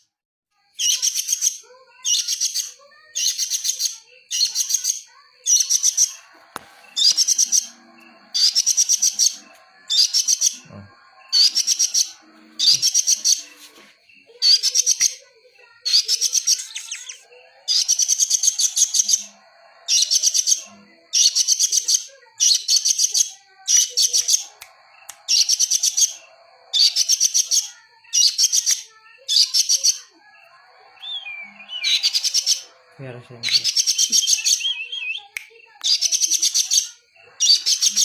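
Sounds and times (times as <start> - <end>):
songbird chattering: 0.8 - 38.0.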